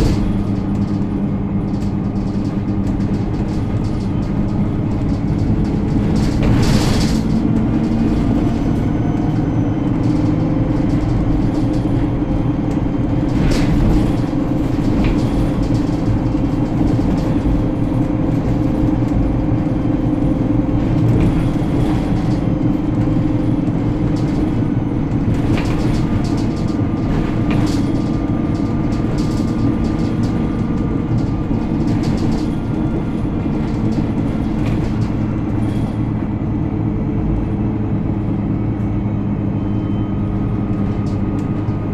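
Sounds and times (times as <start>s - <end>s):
knocks and rattles: 0.0s - 39.0s, 40.3s - 41.9s
bus engine droning: 0.0s - 41.9s.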